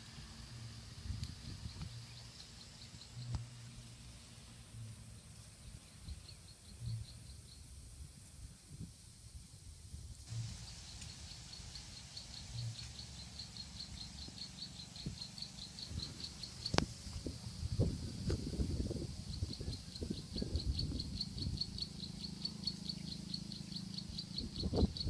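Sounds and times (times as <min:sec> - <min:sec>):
insect chirping: 0:00.0 - 0:08.1, 0:10.2 - 0:25.0.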